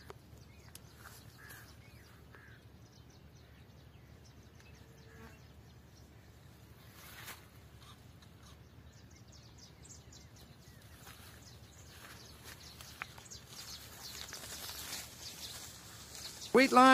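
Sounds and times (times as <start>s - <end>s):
low steady background noise: 0.0s - 16.9s
soft bird chirps: 0.0s - 16.9s.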